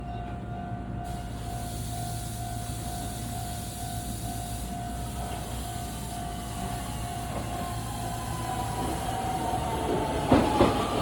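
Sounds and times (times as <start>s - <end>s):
electric train hum: 0.0s - 11.0s
hiss: 1.1s - 11.0s.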